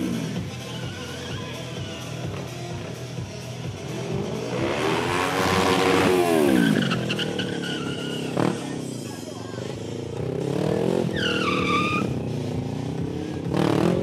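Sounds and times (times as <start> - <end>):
background music: 0.0 - 14.0
motorcycle engine revving: 0.0 - 14.0.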